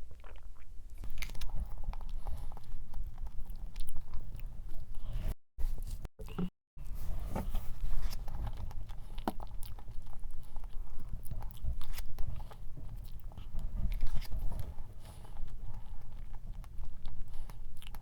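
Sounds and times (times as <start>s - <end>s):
chewing and biting cake: 0.0s - 5.4s, 7.6s - 18.0s.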